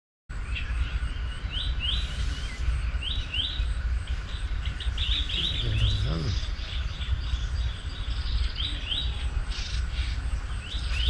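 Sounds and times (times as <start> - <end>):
birds chirping: 0.3 - 11.0
steady low rumble: 0.3 - 11.0.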